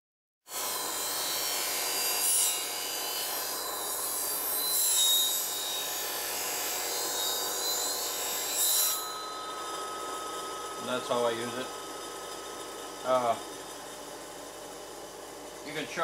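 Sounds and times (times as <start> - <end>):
bench grinder grinding steel: 0.5 - 16.0.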